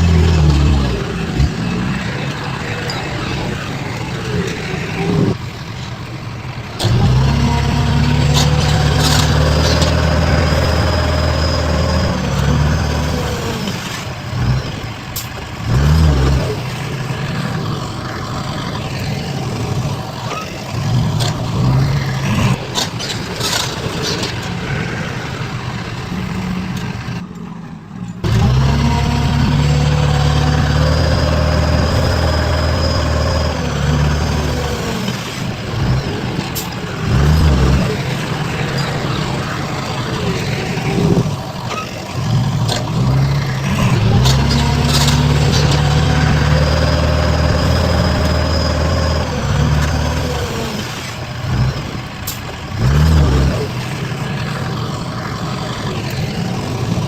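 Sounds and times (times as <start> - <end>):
diesel engines revving: 0.0 - 57.0.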